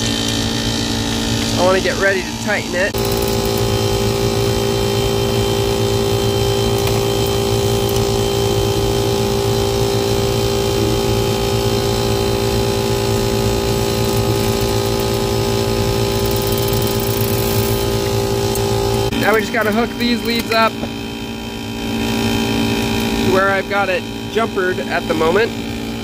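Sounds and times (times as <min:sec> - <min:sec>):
air conditioner mechanical hum: 0:00.0 - 0:26.0.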